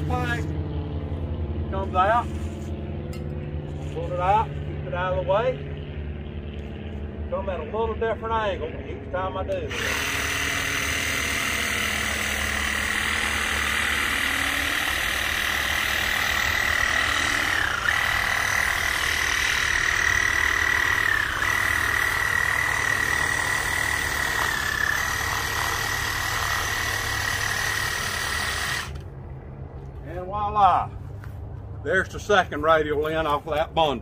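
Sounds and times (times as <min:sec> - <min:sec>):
reciprocating saw motor whine: 0:00.0 - 0:29.6.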